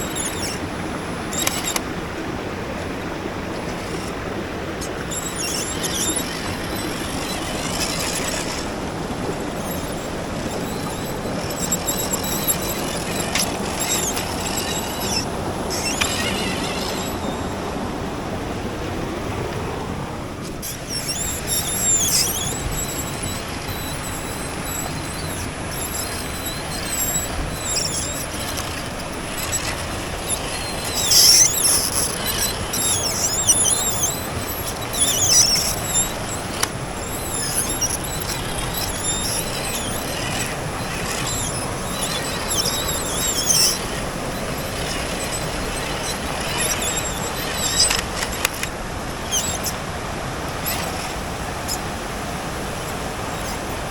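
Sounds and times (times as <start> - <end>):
electric motor whining: 0.0 - 18.4, 20.4 - 49.8.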